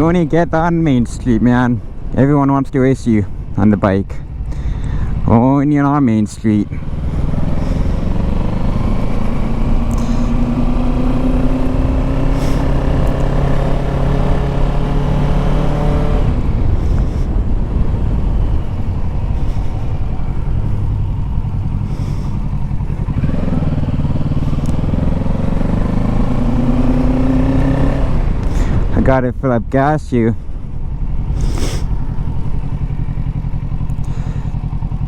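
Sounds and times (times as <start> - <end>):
motorcycle engine running: 0.0 - 29.3, 30.2 - 35.0.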